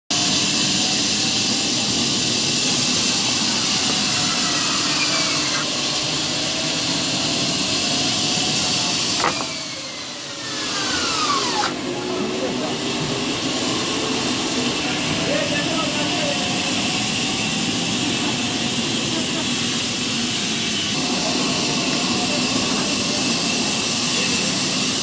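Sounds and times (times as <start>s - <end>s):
bandsaw cutting wood: 0.2s - 25.0s.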